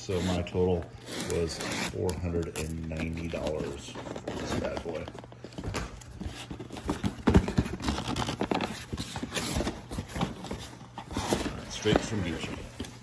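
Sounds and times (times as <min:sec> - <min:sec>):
cardboard scraping and rustling: 0:00.0 - 0:13.0.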